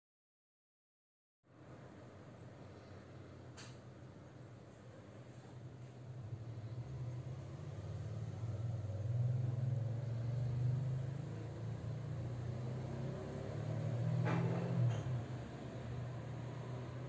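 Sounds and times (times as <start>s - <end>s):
aquarium pump humming: 1.6s - 17.0s.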